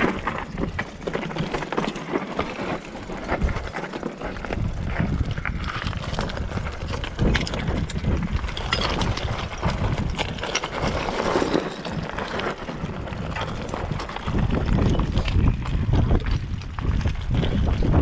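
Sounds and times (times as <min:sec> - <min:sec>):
bike knocks and rattles: 0:00.0 - 0:18.0
tyres crunching over scree: 0:00.0 - 0:18.0
wind rumble on microphone: 0:00.0 - 0:18.0.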